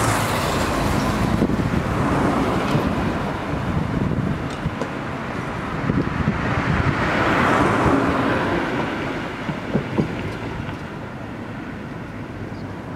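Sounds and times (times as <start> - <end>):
car passing by: 0.0 - 11.0.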